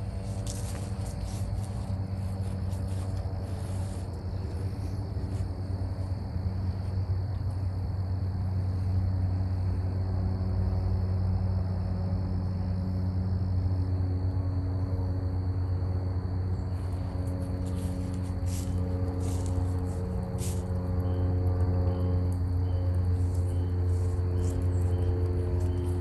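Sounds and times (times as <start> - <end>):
mechanical motor hum: 0.0 - 26.0.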